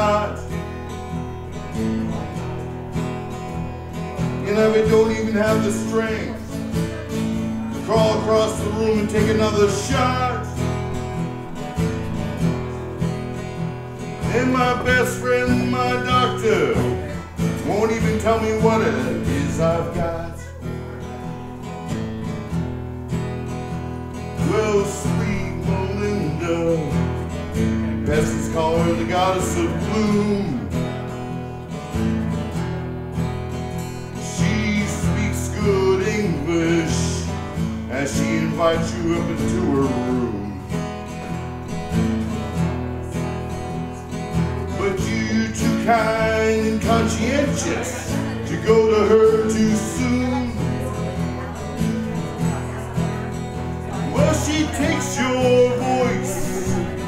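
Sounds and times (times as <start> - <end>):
live band music with guitar: 0.0 - 57.0.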